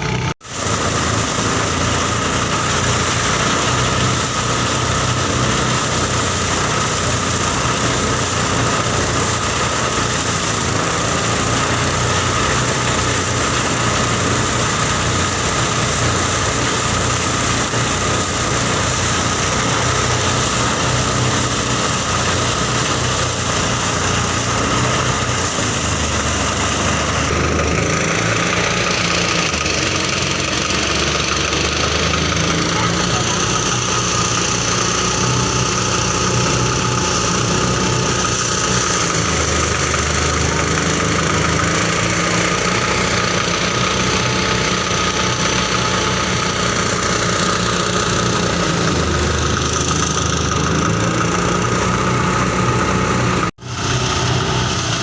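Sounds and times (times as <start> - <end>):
diesel engine running: 0.0 - 55.0
threshing machine: 0.0 - 55.0.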